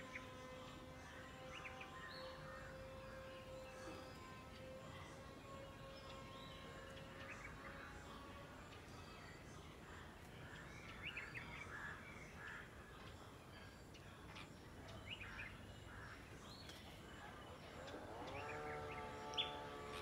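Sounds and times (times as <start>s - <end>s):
multi-tone hum rising in pitch: 0.0s - 11.5s, 14.6s - 20.0s
outdoor background noise: 0.0s - 20.0s.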